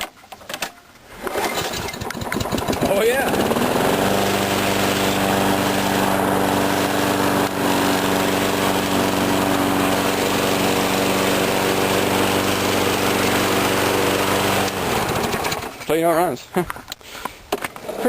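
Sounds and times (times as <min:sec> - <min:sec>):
lawn mower engine running: 0:01.2 - 0:16.0.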